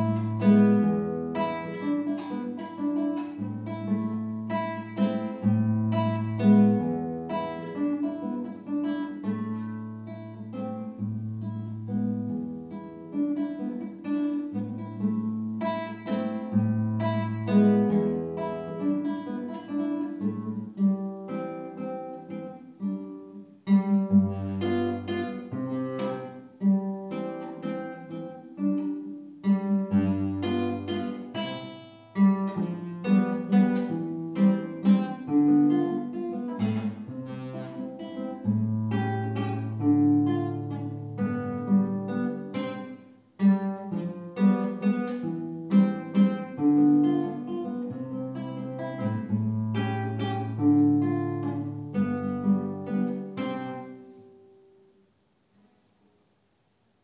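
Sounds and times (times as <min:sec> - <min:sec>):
classical guitar fingerstyle: 0:00.0 - 0:57.0.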